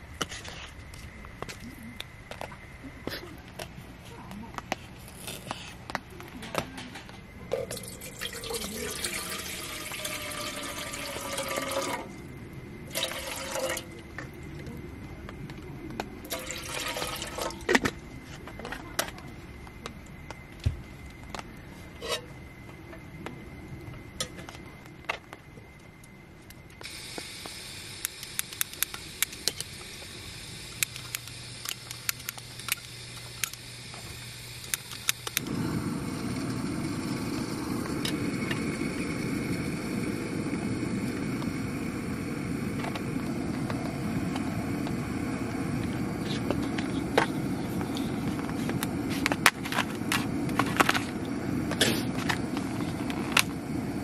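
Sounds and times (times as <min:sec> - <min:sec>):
gas stove burner hissing: 0:00.0 - 0:54.0.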